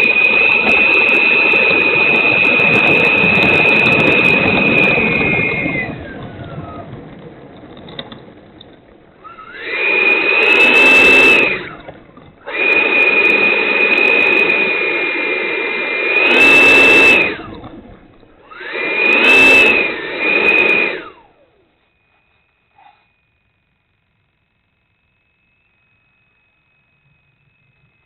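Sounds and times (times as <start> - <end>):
electric ducted fan whine: 0.0 - 28.0.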